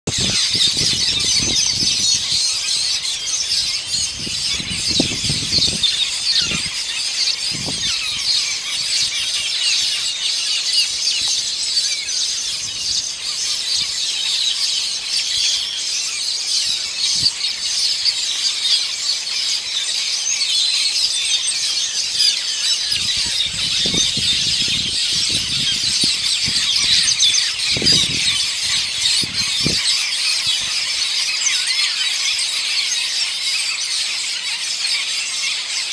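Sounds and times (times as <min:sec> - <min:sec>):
starlings chattering: 0:00.1 - 0:35.9.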